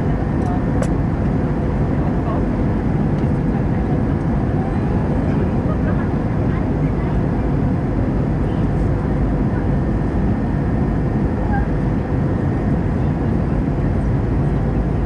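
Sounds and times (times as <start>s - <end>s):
airflow rush in cabin: 0.0s - 15.0s
jet engines droning: 0.0s - 15.0s.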